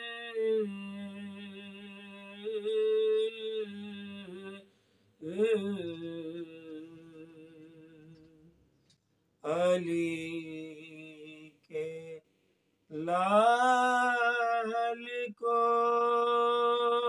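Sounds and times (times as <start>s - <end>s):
man singing unaccompanied: 0.0s - 8.6s, 9.4s - 12.3s, 12.9s - 17.0s.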